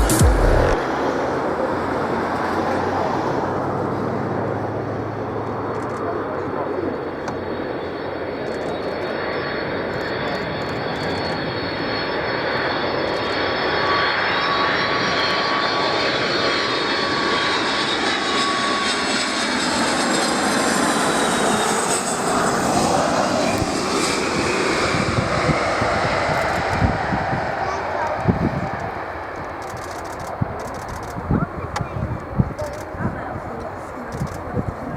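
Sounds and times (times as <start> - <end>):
high jet engine whine: 0.0 - 34.9
jet engine rumble: 0.0 - 34.9.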